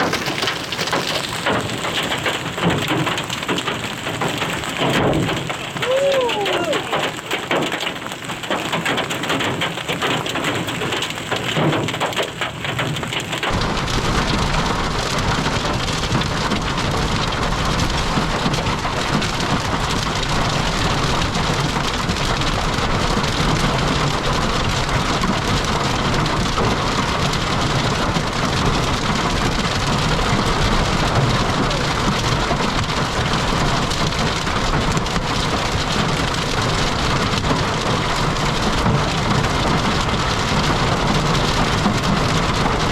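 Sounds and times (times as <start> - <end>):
heavy rain: 0.0 - 42.9
wind: 0.0 - 42.9.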